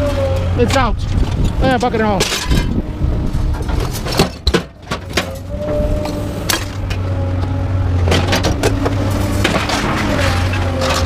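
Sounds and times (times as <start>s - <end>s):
engine running: 0.0s - 11.0s
metal knocks and clanks: 0.4s - 2.8s, 3.4s - 7.1s, 8.0s - 11.0s.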